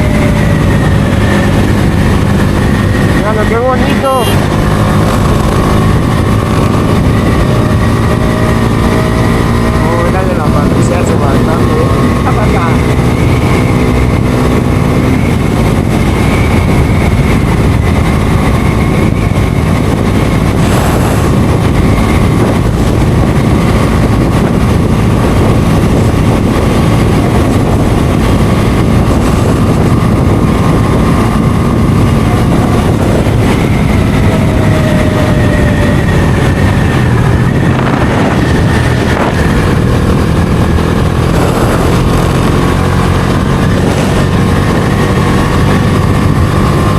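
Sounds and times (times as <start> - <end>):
motorcycle engine running: 0.0 - 46.9
wind rush: 0.0 - 46.9.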